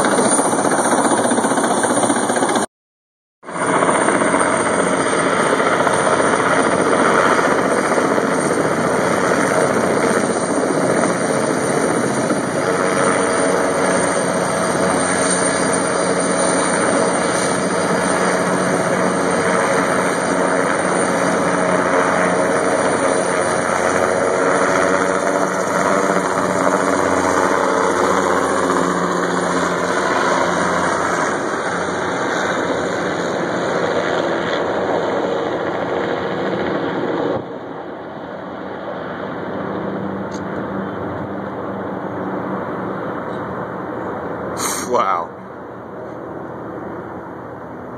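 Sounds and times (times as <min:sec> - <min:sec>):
helicopter rotor and engine drone: 0:00.0 - 0:02.7, 0:03.4 - 0:47.9.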